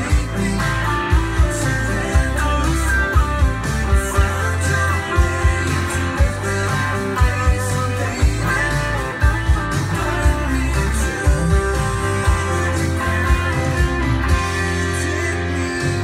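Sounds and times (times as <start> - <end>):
drum beat: 0.0 - 15.0
bass notes: 0.0 - 16.0
electric guitar playing: 0.0 - 16.0.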